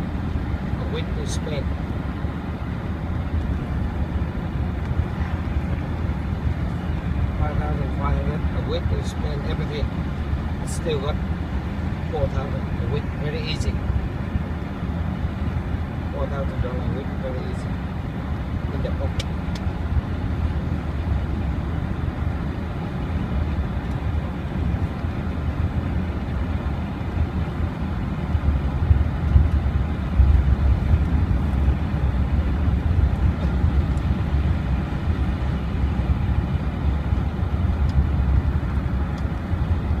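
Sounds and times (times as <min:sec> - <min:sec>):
car tyres and engine rumble: 0:00.0 - 0:40.0.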